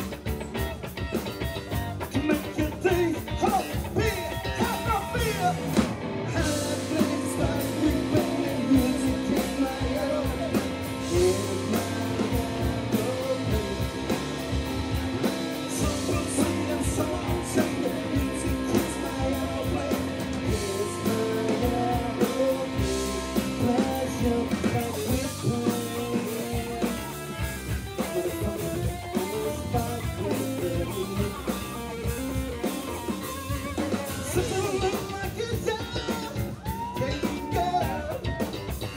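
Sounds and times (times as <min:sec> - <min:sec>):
bass guitar: 0:00.0 - 0:38.9
drum kit: 0:00.0 - 0:38.9
electric guitar: 0:00.0 - 0:38.9
person singing: 0:02.0 - 0:38.9.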